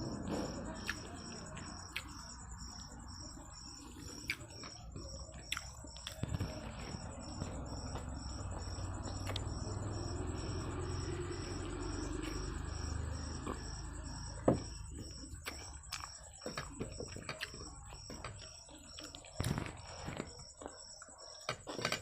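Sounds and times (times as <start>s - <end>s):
muffled chewing: 0.0s - 22.0s.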